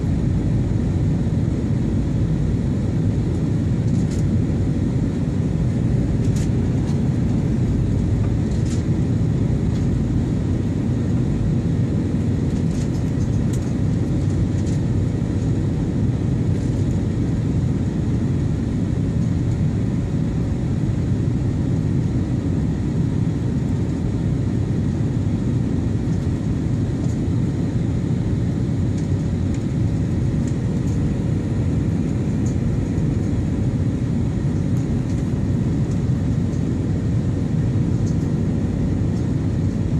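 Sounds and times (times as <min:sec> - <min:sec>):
airliner cabin engine rush: 0:00.0 - 0:39.9
faint steady hum: 0:00.0 - 0:39.9.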